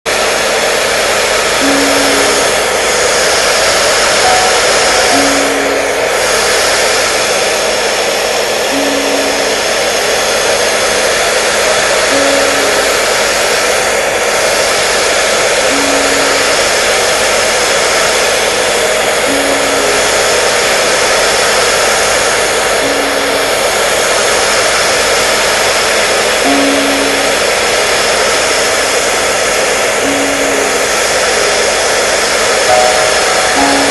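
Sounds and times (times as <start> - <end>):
hair dryer running: 0.0 - 33.9.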